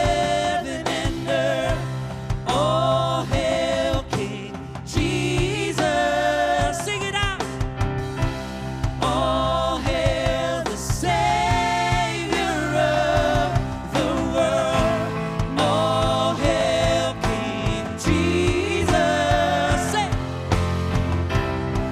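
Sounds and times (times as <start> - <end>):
worship band playing gospel song: 0.0 - 21.9.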